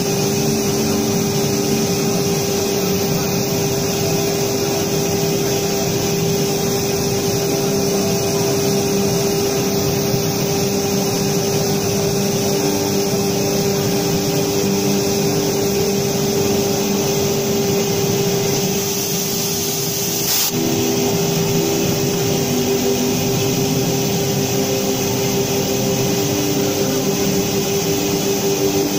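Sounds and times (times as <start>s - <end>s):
router spindle whine: 0.0s - 28.9s.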